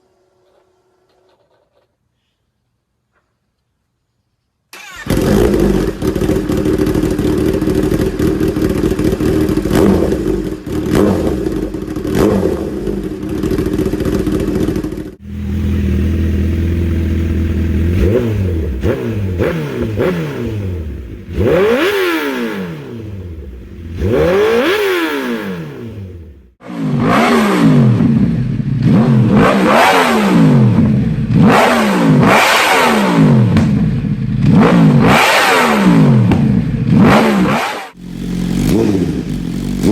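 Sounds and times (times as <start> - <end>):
motorcycle engine at high revs: 4.8 - 39.9
motorcycle idling and revving: 4.8 - 39.9.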